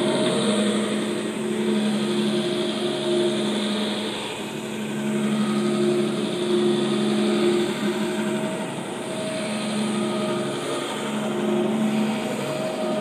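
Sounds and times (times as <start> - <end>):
carpet scrubber motor hum: 0.0 - 13.0.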